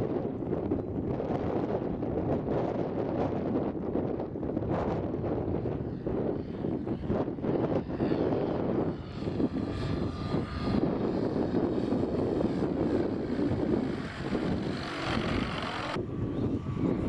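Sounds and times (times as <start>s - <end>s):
model plane engine flying past: 0.0s - 17.0s
wind noise on microphone: 0.0s - 17.0s.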